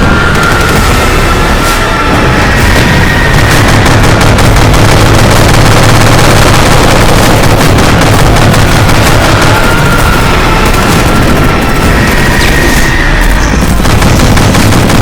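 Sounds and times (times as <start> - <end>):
explosions: 0.0 - 15.0
machine-gun fire: 0.0 - 15.0.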